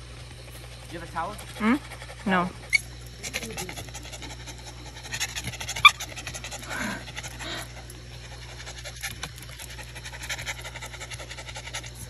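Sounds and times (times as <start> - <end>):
dog panting: 0.3 - 12.0.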